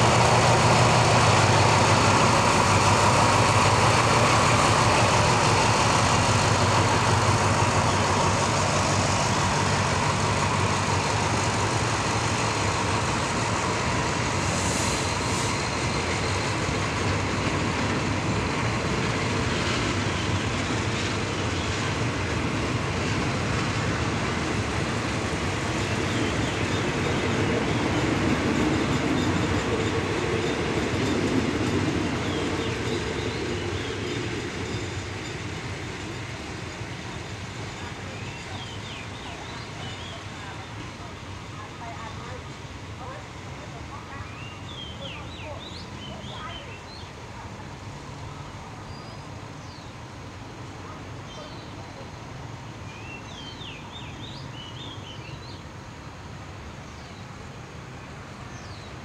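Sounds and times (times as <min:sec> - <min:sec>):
train wheels on track: 0:00.0 - 0:59.0.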